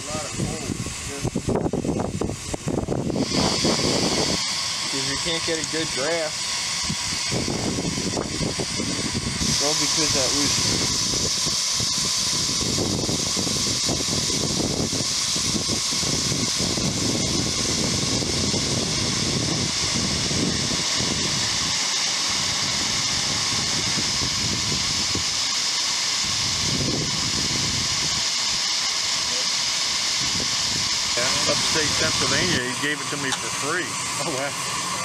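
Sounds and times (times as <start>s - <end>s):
steam hissing from locomotive: 0.0s - 35.0s.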